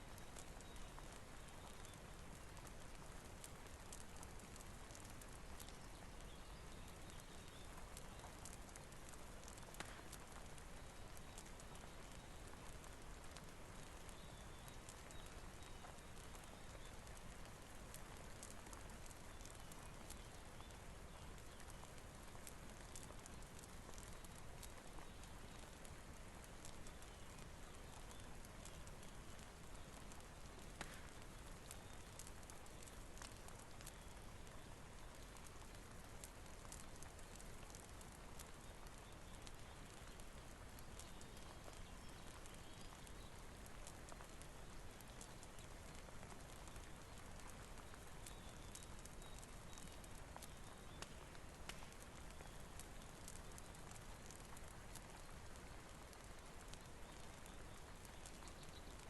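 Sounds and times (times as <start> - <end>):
faint steady rain: 0.0 - 59.0
wood fire crackling: 0.0 - 59.0.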